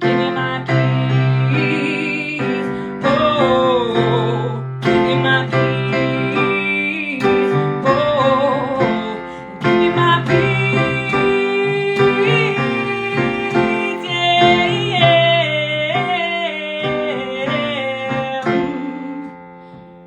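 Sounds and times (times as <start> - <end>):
wordless singing with vibrato: 0.0 - 19.8
acoustic guitar strumming: 0.0 - 20.0.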